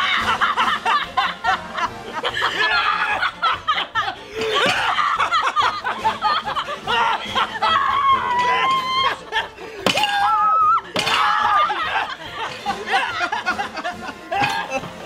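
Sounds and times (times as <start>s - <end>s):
background music: 0.0s - 15.0s
man and women laughing: 0.0s - 15.0s.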